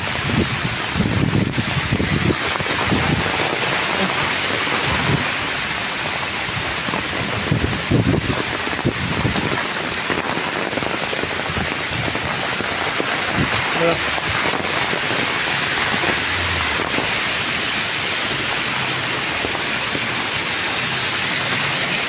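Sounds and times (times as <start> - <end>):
low rumbles: 0.0 - 20.6
heavy rain on road: 0.0 - 22.0.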